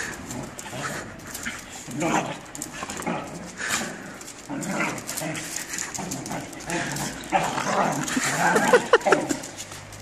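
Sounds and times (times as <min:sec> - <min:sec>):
dogs growling: 0:00.0 - 0:09.9.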